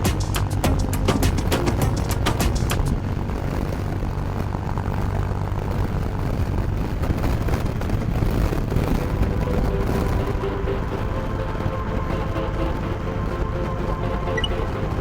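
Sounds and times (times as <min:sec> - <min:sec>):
motorcycle engine rumble: 0:00.0 - 0:15.0
wind rush on microphone: 0:01.5 - 0:15.0.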